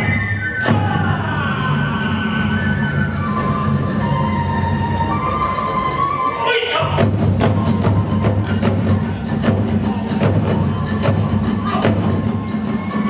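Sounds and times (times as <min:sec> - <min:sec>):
drums and hand cymbals beating: 0:00.0 - 0:13.0.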